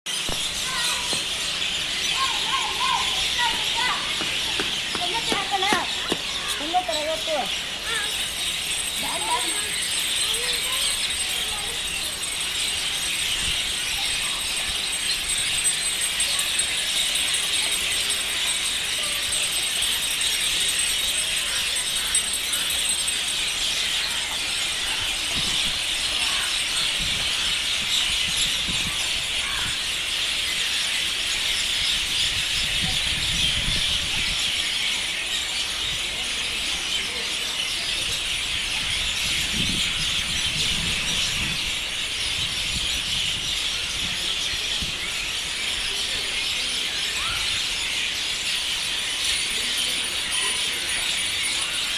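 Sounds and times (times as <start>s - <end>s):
flock of birds chirping: 0.0s - 51.9s.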